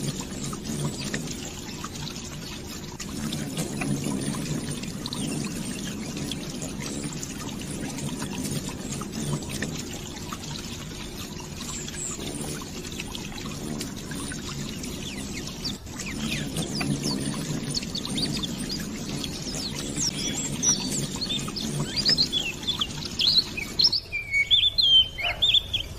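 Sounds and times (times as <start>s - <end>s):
water stream trickling: 0.0s - 25.9s.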